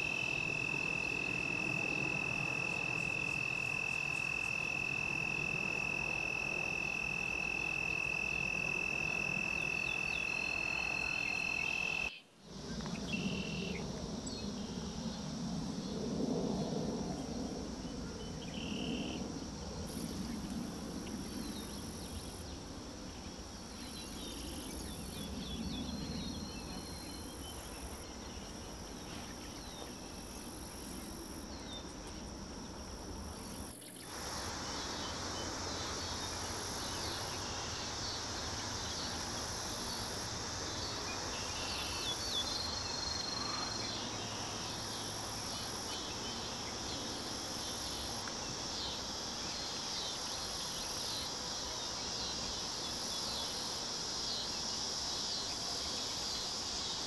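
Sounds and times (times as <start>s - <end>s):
crickets trilling: 0.0s - 57.0s
insects buzzing: 0.0s - 57.0s.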